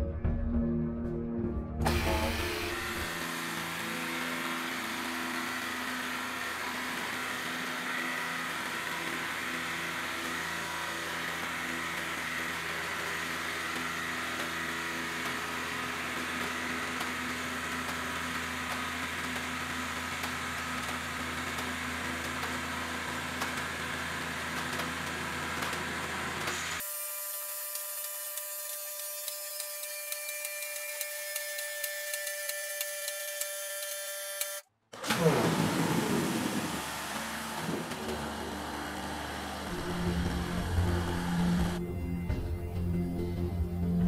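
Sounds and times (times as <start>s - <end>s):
hydraulic pump motor humming: 1.8s - 44.0s.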